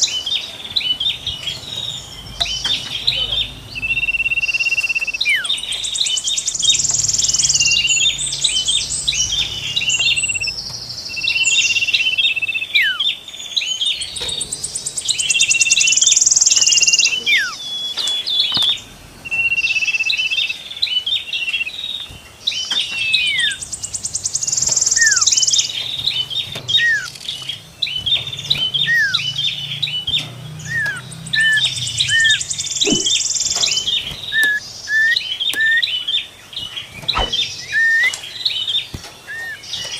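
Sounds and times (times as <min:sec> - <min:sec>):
buzzy high-pitched bird trills: 0:00.0 - 0:13.1, 0:14.0 - 0:20.6, 0:22.6 - 0:36.1, 0:36.8 - 0:39.9
songbirds chirping and whistling: 0:00.0 - 0:39.9.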